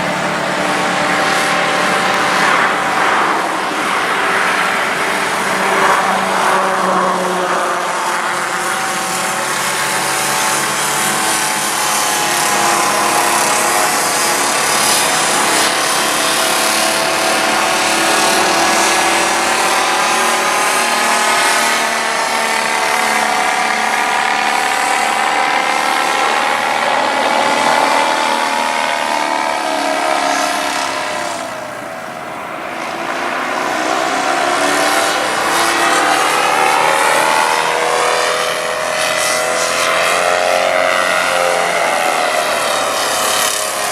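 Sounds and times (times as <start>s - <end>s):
model aircraft motor and propeller: 0.0s - 43.9s.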